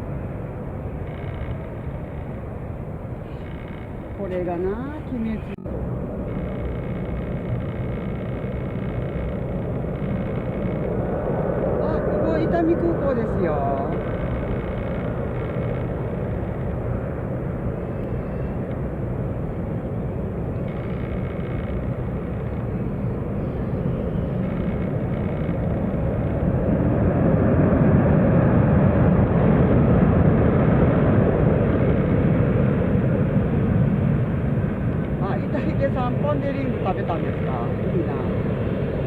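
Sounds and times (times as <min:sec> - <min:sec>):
jet airliner engine rumble: 0:00.0 - 0:39.0.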